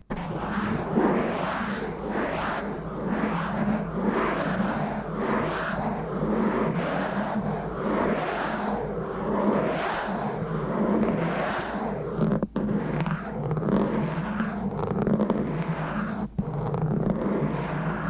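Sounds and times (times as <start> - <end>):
scratching on bare microphone: 0.0 - 18.0.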